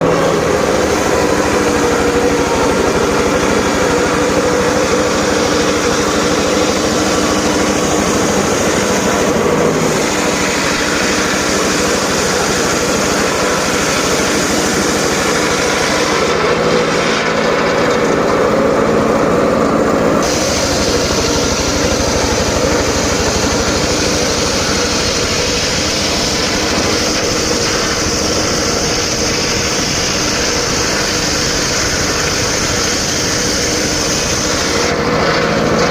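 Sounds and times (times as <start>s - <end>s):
circular saw cutting wood: 0.0s - 35.9s.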